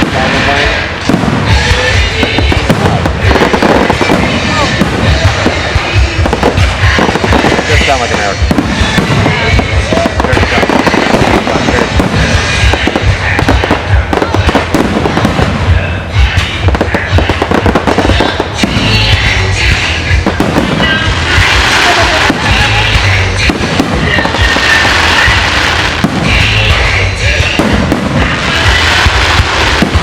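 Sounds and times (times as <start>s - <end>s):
fireworks bangs: 0.0s - 30.0s
fireworks crackling: 0.0s - 30.0s
music: 0.0s - 30.0s.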